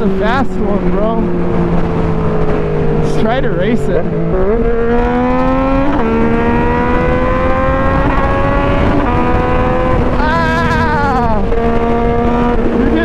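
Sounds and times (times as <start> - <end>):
motorcycle engine accelerating: 0.0 - 13.0
wind rush: 0.0 - 13.0.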